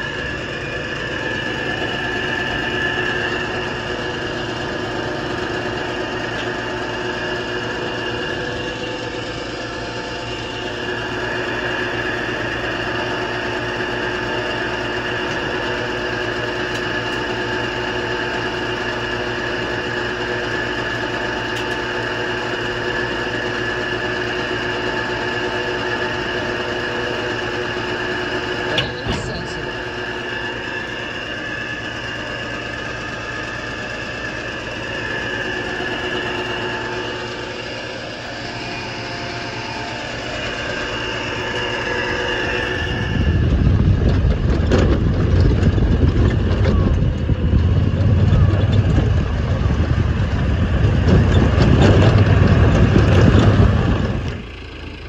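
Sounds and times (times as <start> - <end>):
auger whining: 0.0 - 55.0
tractor engine droning: 0.0 - 55.0.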